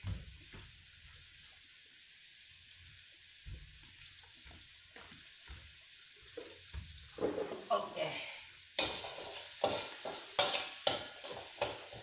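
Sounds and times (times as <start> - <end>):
rice hissing in a wok: 0.0 - 12.0.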